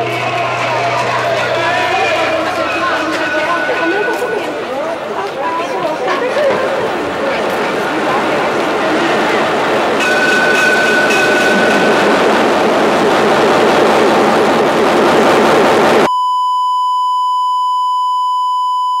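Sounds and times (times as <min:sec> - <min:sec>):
crowd talking: 0:00.0 - 0:16.0.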